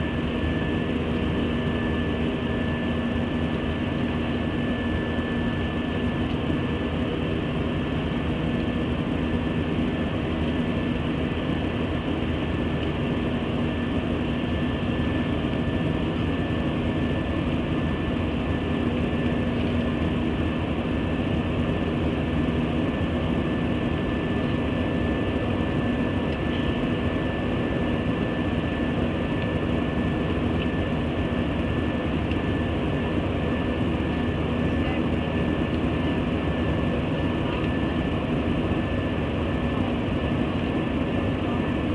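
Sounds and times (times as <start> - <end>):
jet engine drone in cabin: 0.0 - 41.9.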